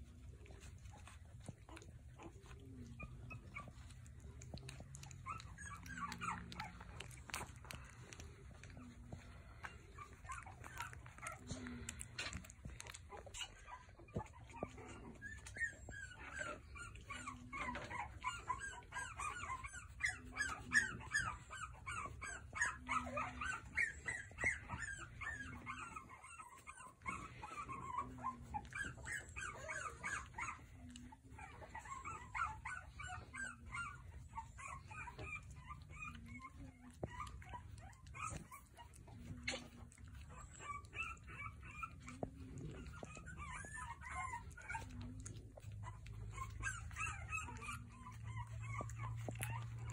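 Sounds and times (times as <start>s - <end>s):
puppies whimpering and squealing: 0.0s - 49.9s.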